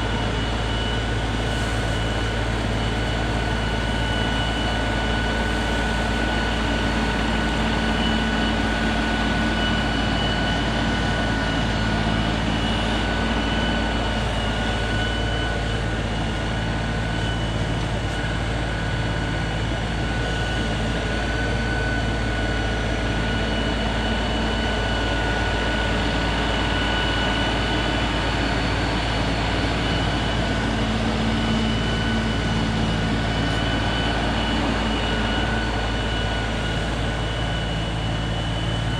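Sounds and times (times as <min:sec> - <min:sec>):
tractor engine running with whine: 0:00.0 - 0:38.9.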